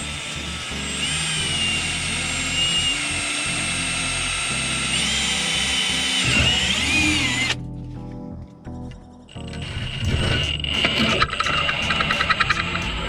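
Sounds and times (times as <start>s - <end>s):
power drill boring plastic: 0.0s - 7.6s, 9.6s - 13.0s.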